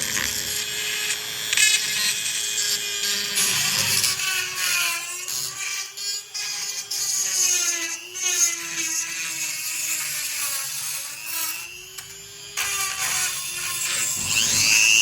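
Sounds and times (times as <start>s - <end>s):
power tool motor whine: 0.0s - 15.0s.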